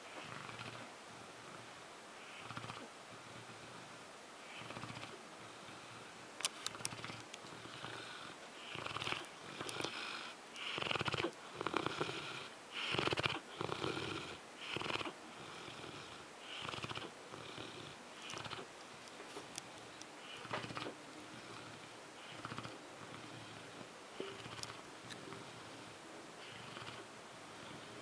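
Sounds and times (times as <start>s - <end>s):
dog snoring: 0.0s - 18.7s, 20.2s - 28.0s.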